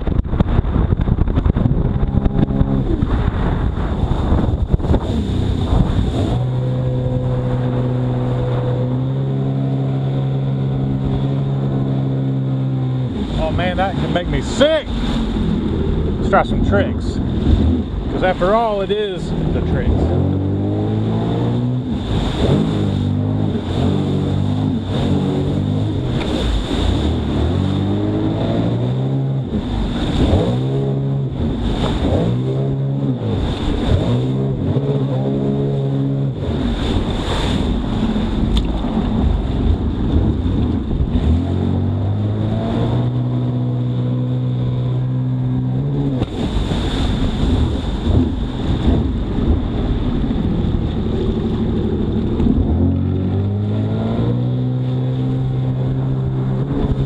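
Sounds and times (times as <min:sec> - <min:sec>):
jet ski engine revving: 0:00.0 - 0:57.0
wind on microphone: 0:00.0 - 0:57.0.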